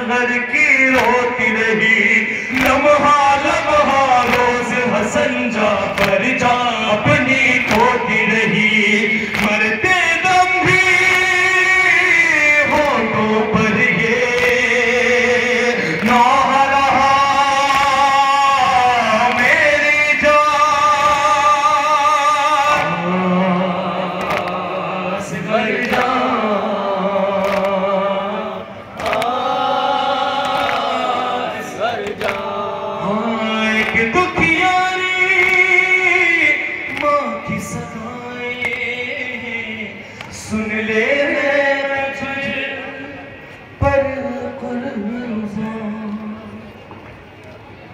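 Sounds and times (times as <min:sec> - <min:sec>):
men singing lament through loudspeakers: 0:00.0 - 0:46.9.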